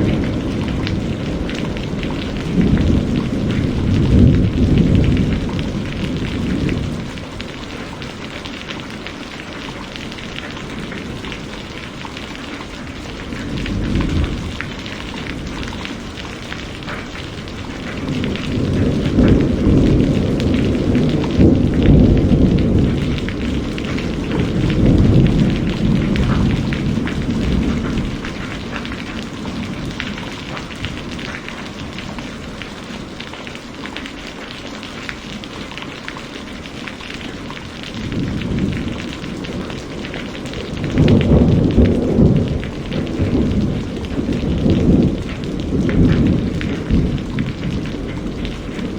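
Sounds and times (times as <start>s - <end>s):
thunder rumbling: 0.0s - 33.5s, 37.2s - 48.9s
heavy rain: 0.0s - 48.9s.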